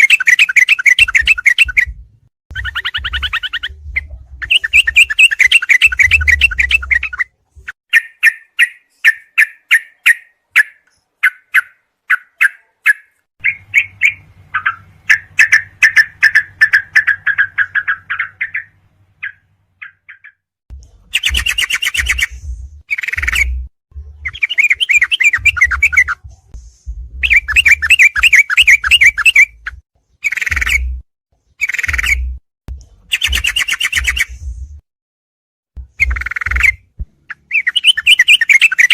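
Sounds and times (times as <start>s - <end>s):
bulbul song: 0.0s - 34.6s, 35.8s - 38.9s.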